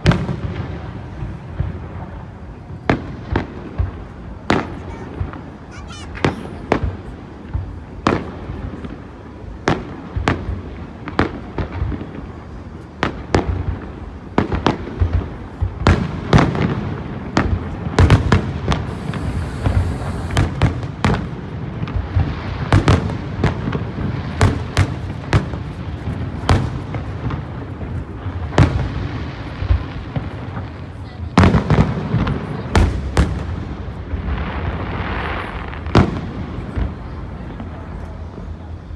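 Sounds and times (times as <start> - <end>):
firework bangs and crackles: 0.0 - 38.5.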